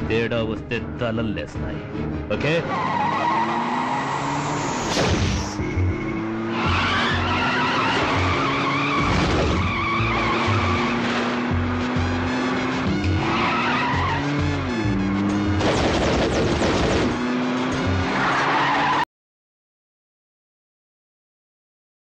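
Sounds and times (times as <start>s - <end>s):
car speeding on dirt road: 0.0s - 19.0s
tyres skidding: 0.0s - 19.0s.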